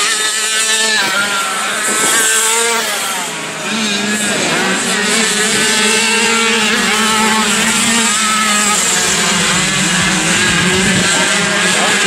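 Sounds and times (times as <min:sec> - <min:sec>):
two-stroke motorcycle engines racing: 0:00.0 - 0:12.0.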